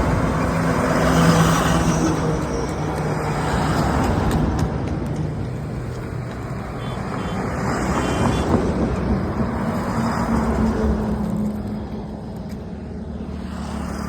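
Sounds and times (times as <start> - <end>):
passing vehicles rushing: 0.0 - 14.0.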